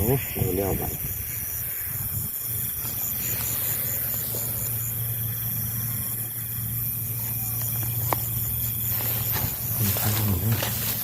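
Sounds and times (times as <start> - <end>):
faint high pulsing chirp: 0.0 - 9.9.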